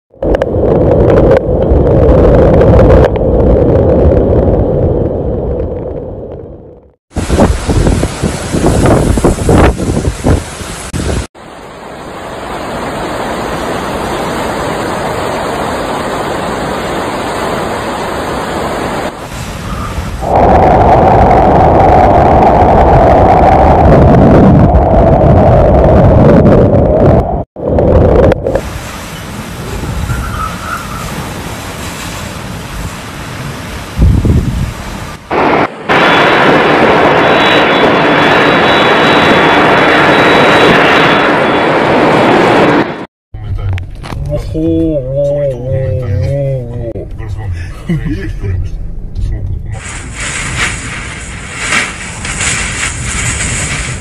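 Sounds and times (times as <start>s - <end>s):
gusty wind on microphone: 0.1s - 44.2s, 49.7s - 54.0s
storm wind and rain roaring: 0.1s - 54.0s.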